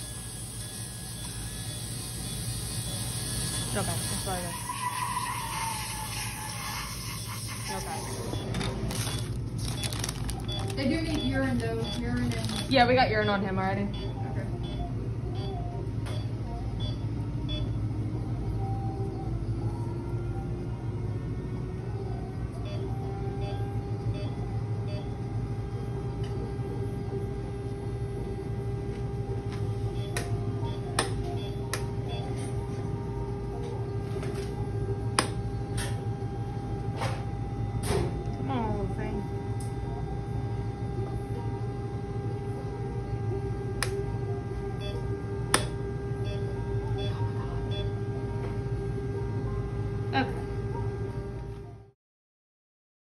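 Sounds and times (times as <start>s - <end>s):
equipment humming: 0.0s - 51.9s.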